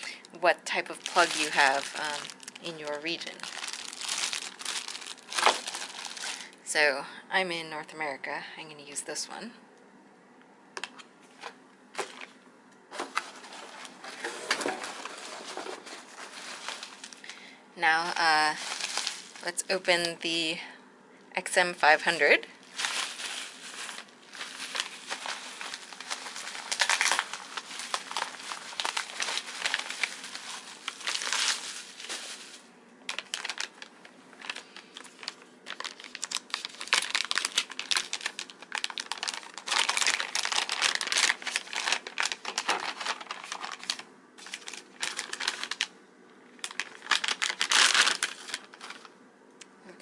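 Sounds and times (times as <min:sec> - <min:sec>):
plastic packaging crinkling: 0:00.0 - 0:06.7, 0:10.8 - 0:20.4, 0:22.2 - 0:45.9, 0:46.5 - 0:49.2.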